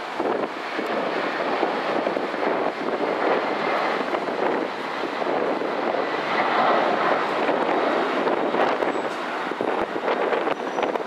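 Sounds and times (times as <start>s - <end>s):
jet airliner taking off: 0.0s - 11.0s
wind buffeting microphone: 0.0s - 11.0s.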